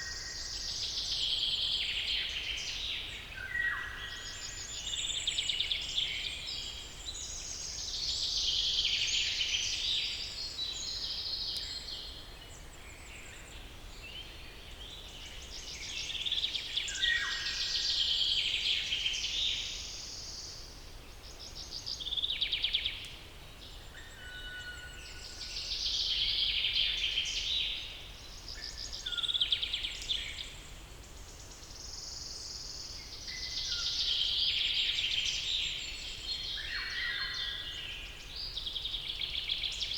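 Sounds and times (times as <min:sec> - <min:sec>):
forest birds singing: 0:00.0 - 0:39.9.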